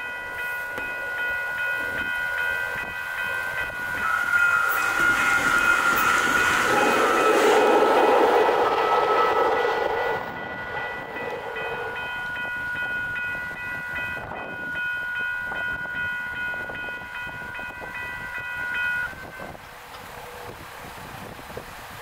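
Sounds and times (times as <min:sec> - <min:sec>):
railroad crossing bells ringing: 0:00.0 - 0:20.7
train wheel noise: 0:00.0 - 0:22.0.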